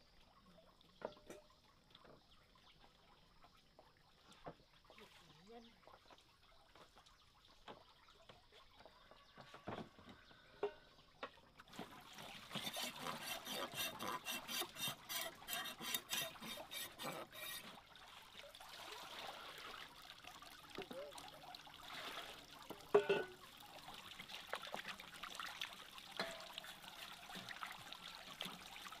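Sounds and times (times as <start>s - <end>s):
water splashing in a basin: 0.0s - 9.1s, 10.8s - 29.0s
water trickling: 0.0s - 9.4s, 10.2s - 29.0s.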